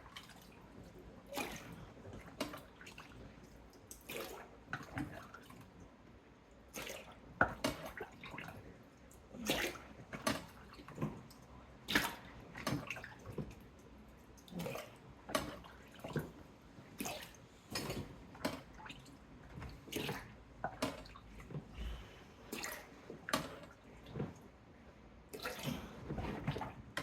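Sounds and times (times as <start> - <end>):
water splashes and drips: 0.0 - 21.8, 22.4 - 24.6, 25.3 - 27.0.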